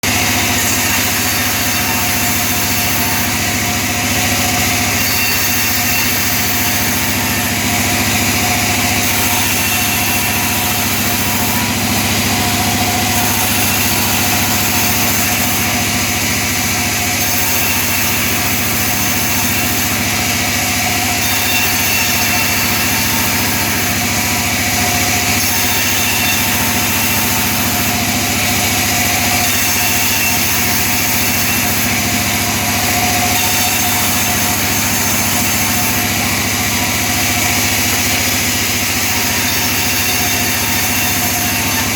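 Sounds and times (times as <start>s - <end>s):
sawmill saw ripping wood: 0.0s - 41.9s.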